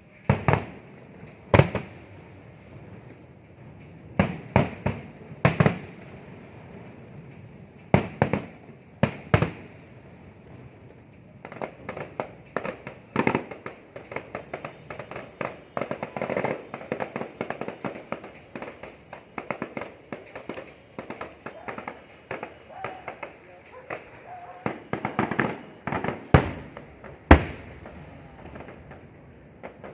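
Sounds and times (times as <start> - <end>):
fireworks bangs: 0.0 - 29.9
fireworks popping and crackling: 0.0 - 29.9.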